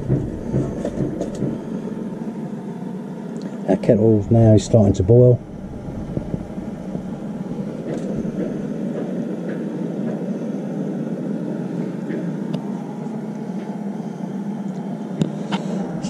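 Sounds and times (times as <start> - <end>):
kettle water rumbling: 0.0 - 14.0.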